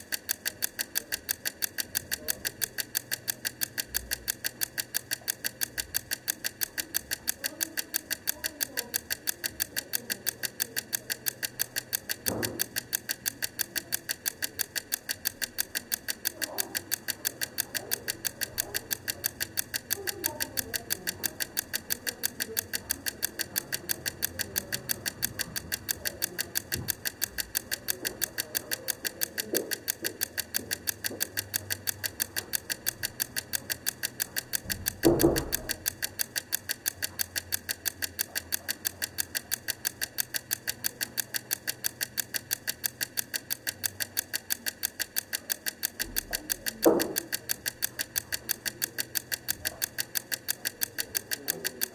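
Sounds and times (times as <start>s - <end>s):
egg timer ticking: 0.0s - 51.9s.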